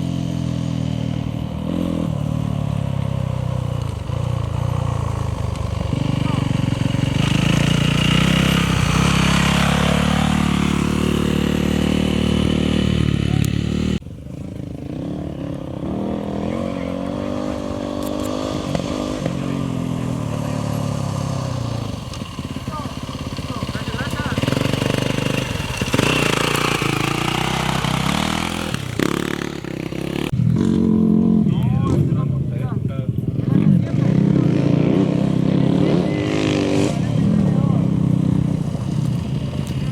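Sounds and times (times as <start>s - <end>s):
off-road motorcycle engine running: 0.0s - 39.9s.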